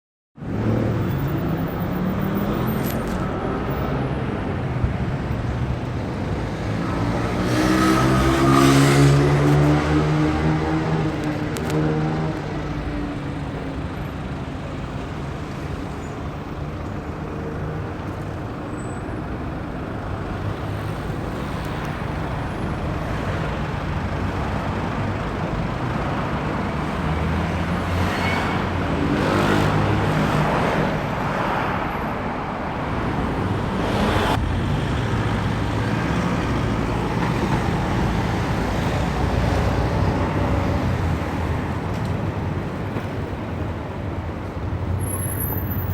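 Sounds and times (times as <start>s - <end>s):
road traffic rumble: 0.4s - 45.9s.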